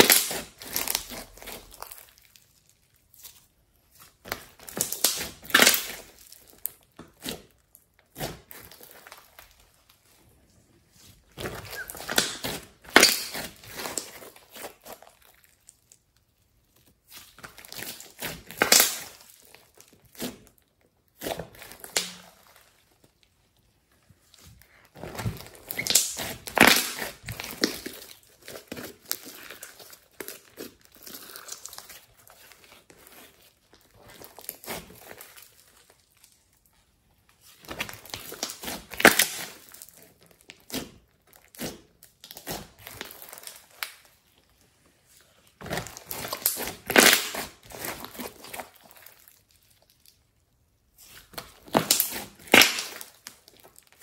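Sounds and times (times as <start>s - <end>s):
hands kneading sticky slime: 0.0s - 54.0s.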